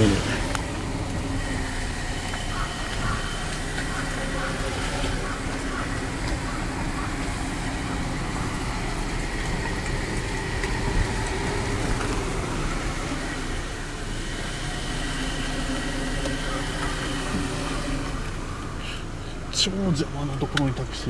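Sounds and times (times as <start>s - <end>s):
car engine from inside cabin: 0.0s - 21.0s
road rumble: 0.0s - 21.0s.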